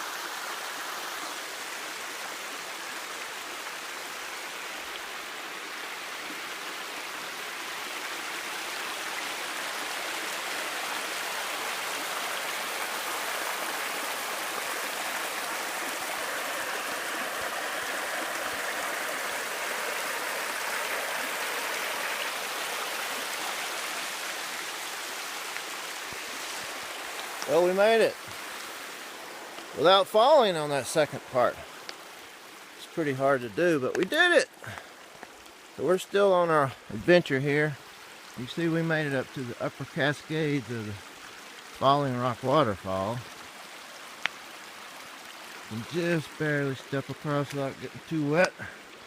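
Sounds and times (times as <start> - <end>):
waterfall rushing over rocks: 0.0 - 49.0.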